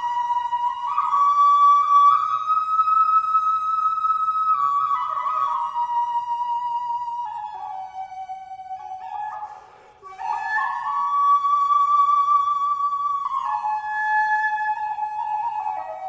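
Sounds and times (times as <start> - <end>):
solo flute long notes: 0.0 - 16.0.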